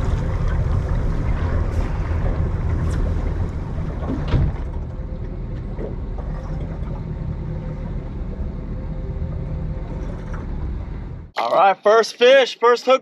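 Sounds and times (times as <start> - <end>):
water noise: 0.0 - 11.3
boat motor idling: 0.0 - 11.4.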